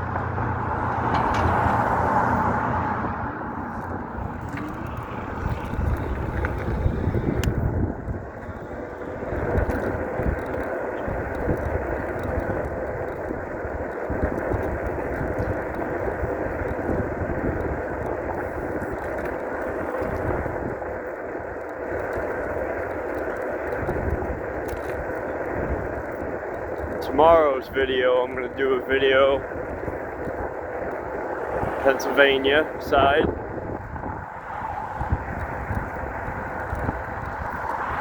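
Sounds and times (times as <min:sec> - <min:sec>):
bike tyres rushing on road: 0:00.0 - 0:38.0
wind buffeting microphone: 0:00.0 - 0:38.0.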